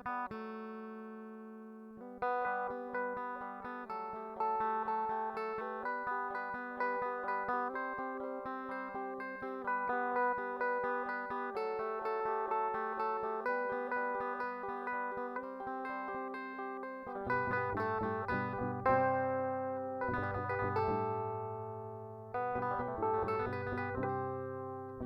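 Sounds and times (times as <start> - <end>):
plucked guitar notes: 0.0 - 25.0.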